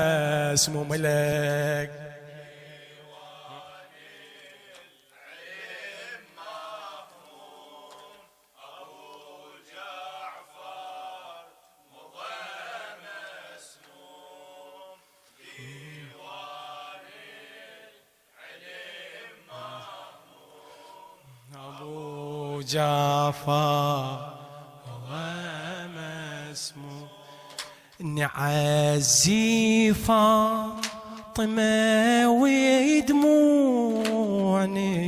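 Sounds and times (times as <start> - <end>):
men chanting in unison: 0.0 - 35.0.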